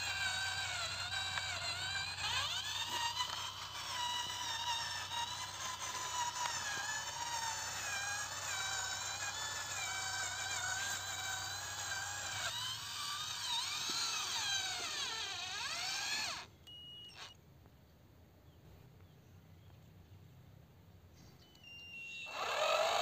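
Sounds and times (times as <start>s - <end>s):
toy tractor motor whining: 0.0s - 17.4s, 21.6s - 23.0s.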